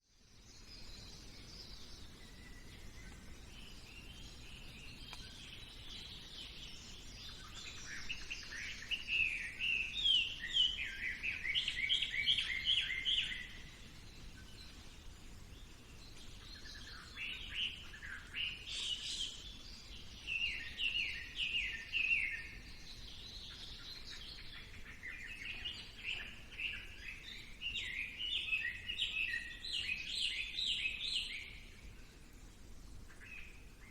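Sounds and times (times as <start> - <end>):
faint outdoor hiss: 0.0 - 33.9
birds chirping: 0.2 - 33.9.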